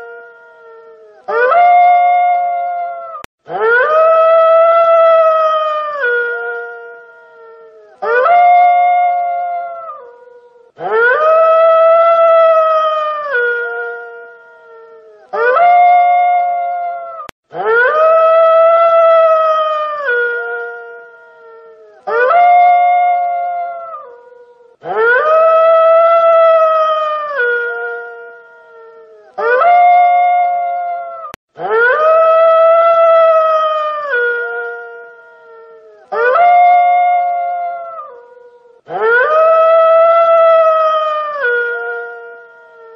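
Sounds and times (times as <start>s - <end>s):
wolf howling: 0.0s - 42.9s.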